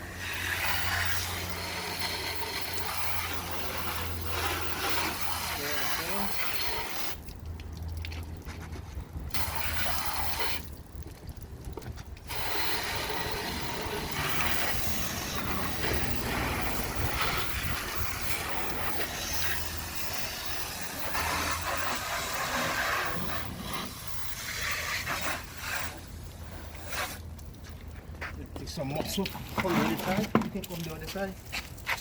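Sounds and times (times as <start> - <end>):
hose water spraying on car: 0.0 - 11.5, 12.2 - 27.4.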